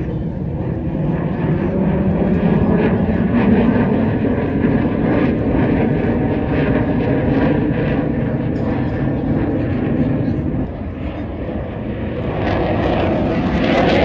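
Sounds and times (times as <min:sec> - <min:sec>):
military aircraft engine rumble: 0:00.0 - 0:14.0.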